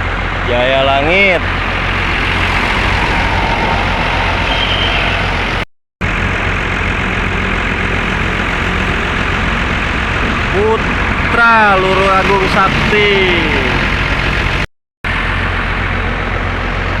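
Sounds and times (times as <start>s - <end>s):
bus engine running: 0.0s - 17.0s
road and traffic noise: 0.0s - 17.0s.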